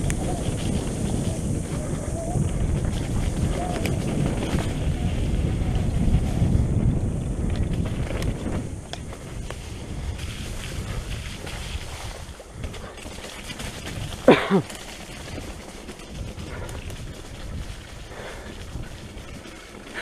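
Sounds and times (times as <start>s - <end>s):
mountain bike rolling on rocky trail: 0.0s - 20.0s
wind buffeting microphone: 0.0s - 20.0s.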